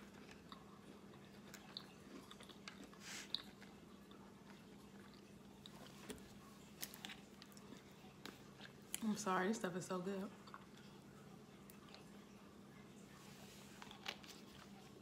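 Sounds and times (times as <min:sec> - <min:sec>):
chewing with mouth closed: 0:00.0 - 0:09.1, 0:10.3 - 0:12.5, 0:13.7 - 0:15.0.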